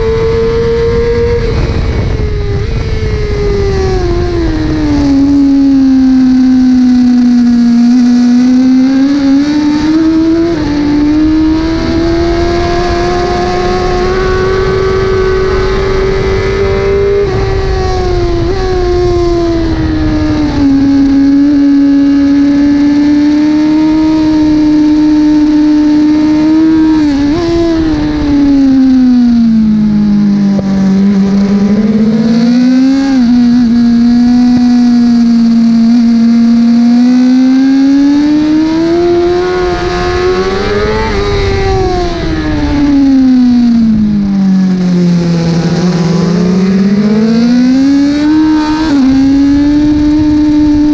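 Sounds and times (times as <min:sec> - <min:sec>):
motorcycle engine at high revs: 0:00.0 - 0:50.9.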